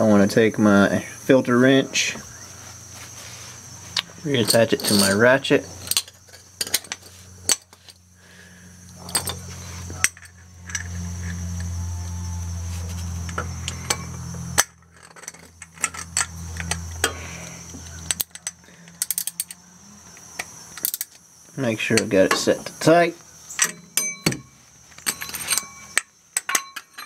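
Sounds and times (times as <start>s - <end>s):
steady low hum: 0.0s - 26.8s.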